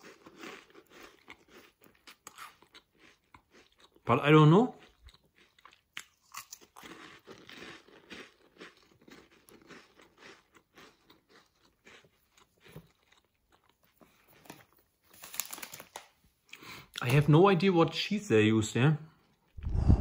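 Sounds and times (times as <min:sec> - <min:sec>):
crunching and chewing pastry: 0:00.0 - 0:17.3.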